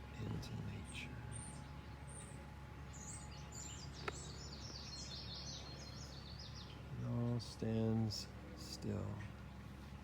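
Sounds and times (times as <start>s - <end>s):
outdoor background noise: 0.0s - 10.0s
songbirds chirping: 0.0s - 10.0s.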